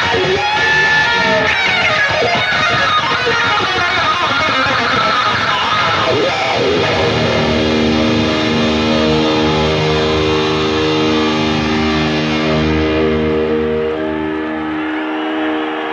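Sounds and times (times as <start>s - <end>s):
heavy metal band playing: 0.0s - 15.9s.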